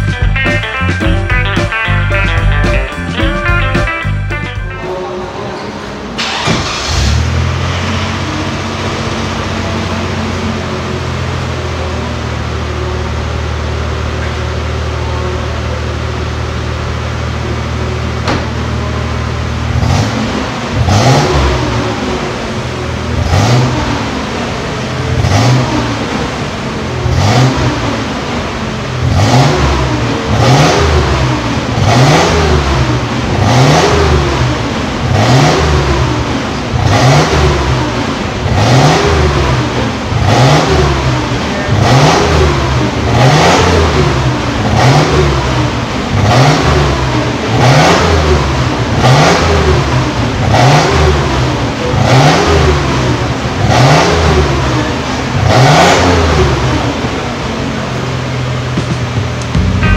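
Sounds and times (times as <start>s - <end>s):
car engine revving: 4.9s - 59.9s.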